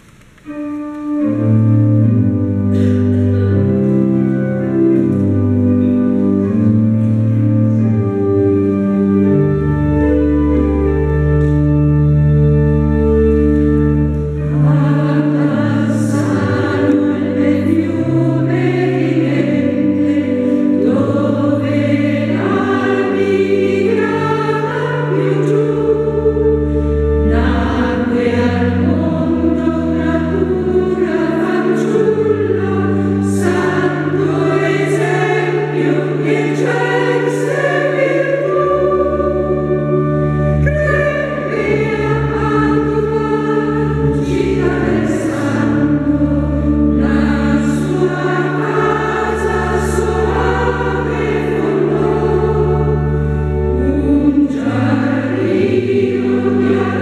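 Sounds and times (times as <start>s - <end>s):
women's choir singing a hymn: 2.7s - 57.0s.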